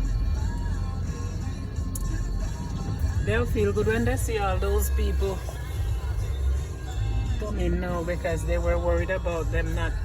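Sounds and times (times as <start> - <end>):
low rumble of car: 0.0 - 10.0
music from car radio: 0.0 - 10.0.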